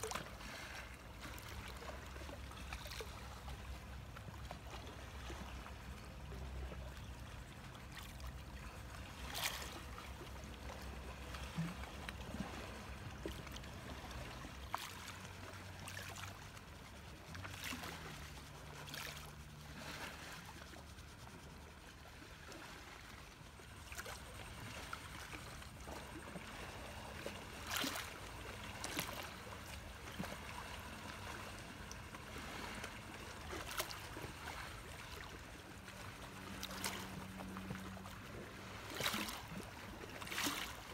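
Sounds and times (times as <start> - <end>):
lake water lapping on shore: 0.0 - 40.9.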